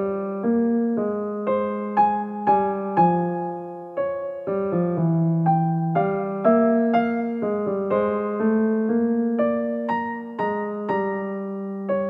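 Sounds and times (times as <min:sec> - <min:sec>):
gentle solo piano tune: 0:00.0 - 0:12.0.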